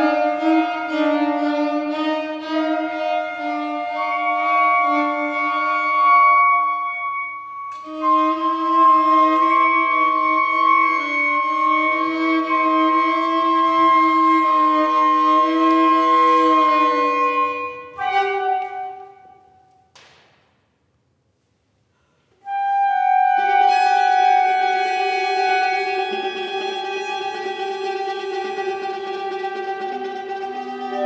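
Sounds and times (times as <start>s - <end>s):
winds and strings chamber music: 0.0s - 19.9s, 22.3s - 31.0s.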